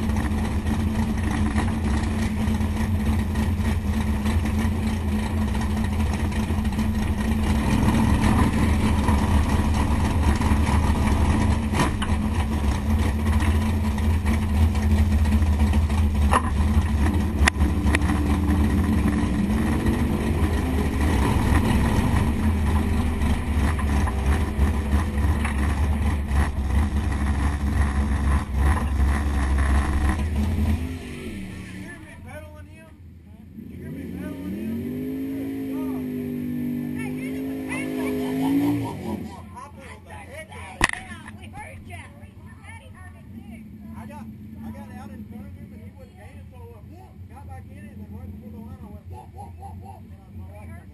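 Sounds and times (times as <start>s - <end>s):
car engine loping: 0.0s - 50.9s.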